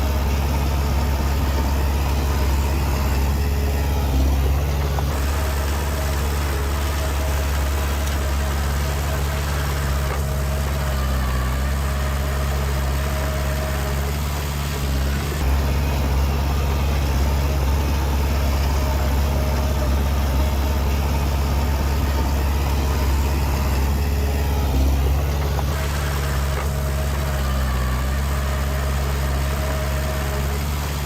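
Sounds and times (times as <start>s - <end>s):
heavy diesel engine humming: 0.0s - 31.0s.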